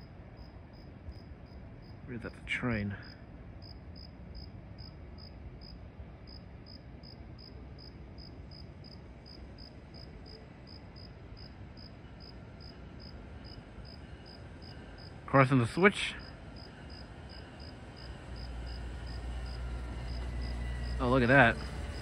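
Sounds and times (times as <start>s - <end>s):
cricket chirping: 0.4s - 2.0s, 3.0s - 15.2s, 16.2s - 22.0s.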